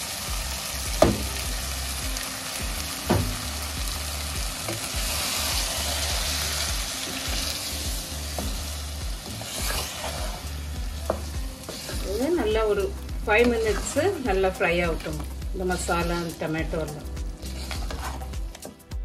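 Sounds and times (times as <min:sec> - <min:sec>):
food sizzling in a pan: 0:00.0 - 0:18.7.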